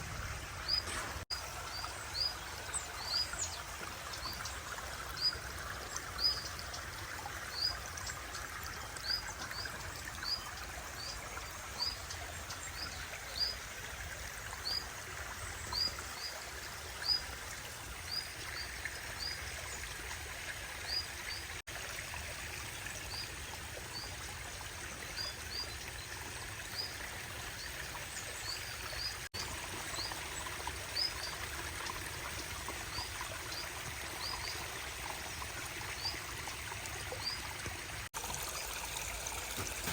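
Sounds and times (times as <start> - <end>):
stream and waterfall flowing: 0.0 - 39.9.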